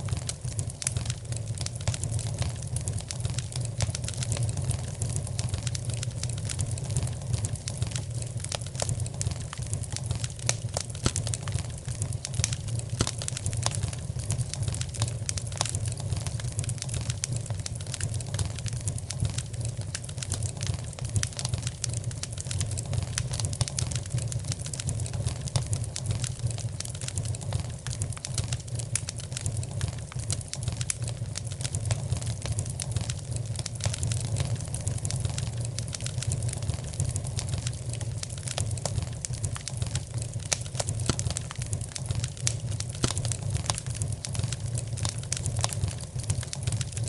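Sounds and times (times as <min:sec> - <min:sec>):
fire crackling in a fireplace: 0:00.0 - 0:47.0.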